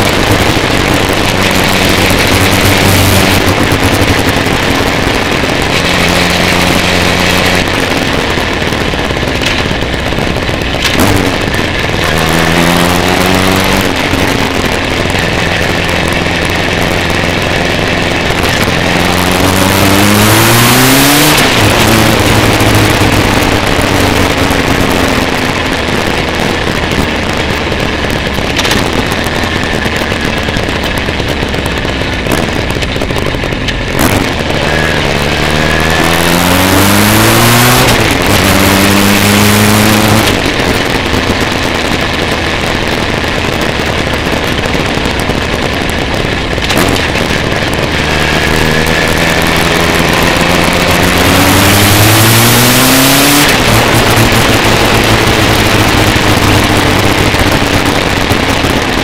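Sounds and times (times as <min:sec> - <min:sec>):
motorcycle engine revving: 0:00.0 - 0:59.0
wind noise over microphone: 0:00.0 - 0:59.0.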